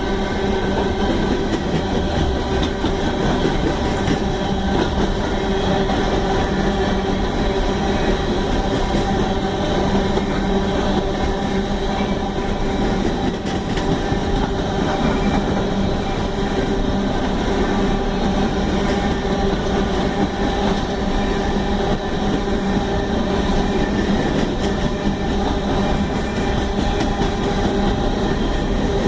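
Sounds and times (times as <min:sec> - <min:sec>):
freight train cars rumbling: 0:00.0 - 0:29.0.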